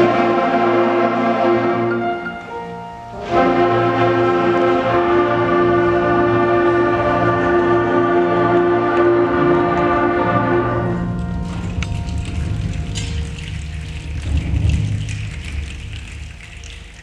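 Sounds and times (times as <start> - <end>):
concert band sustained chord: 0.0 - 14.0.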